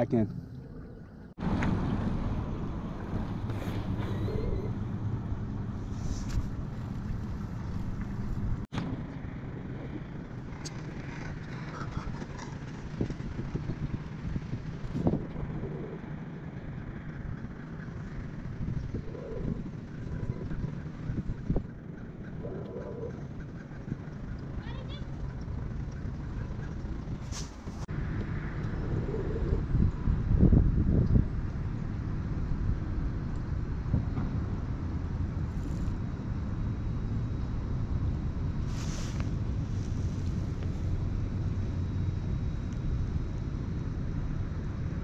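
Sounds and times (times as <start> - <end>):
wind and water rumble: 0.0 - 45.0.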